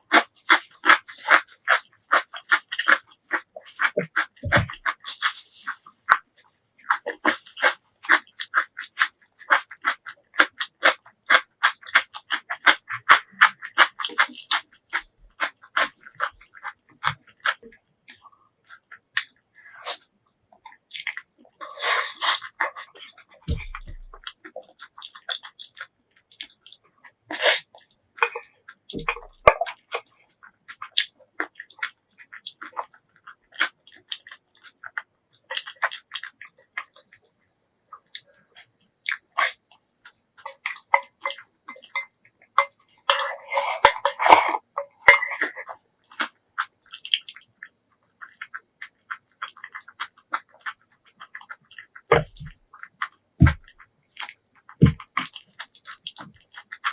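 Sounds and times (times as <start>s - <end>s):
person chewing with mouth sounds: 0.0s - 56.9s.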